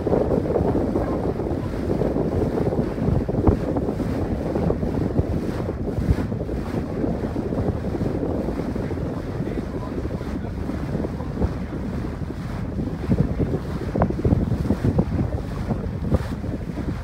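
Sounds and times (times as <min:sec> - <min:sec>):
boat rumbling through water: 0:00.0 - 0:17.0
wind buffeting microphone: 0:00.0 - 0:17.0.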